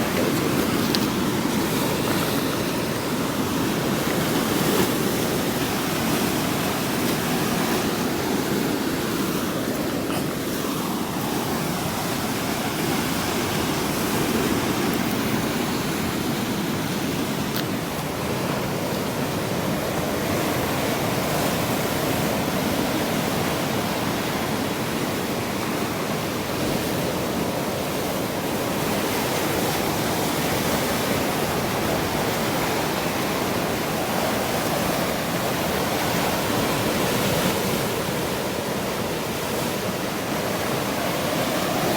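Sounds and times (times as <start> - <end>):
sea waves washing ashore: 0.0 - 41.9.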